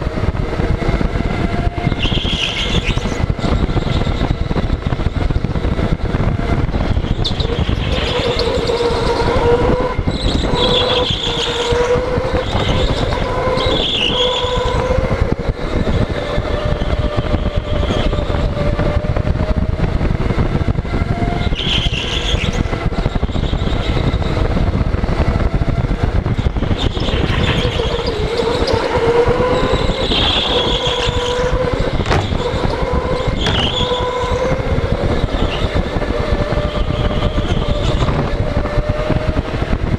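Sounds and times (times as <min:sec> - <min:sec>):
electric motor whine: 0:00.0 - 0:39.9
tire squeals: 0:00.0 - 0:39.9
wind and track noise: 0:00.0 - 0:39.9.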